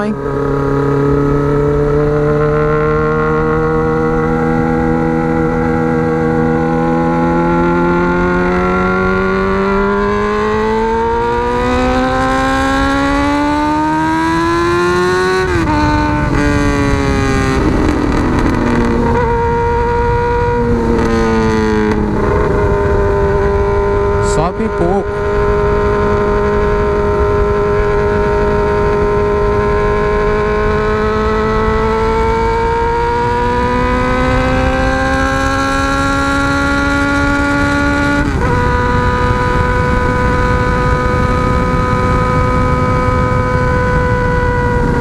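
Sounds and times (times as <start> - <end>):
motorcycle engine accelerating: 0.0 - 45.0
wind noise: 0.0 - 45.0.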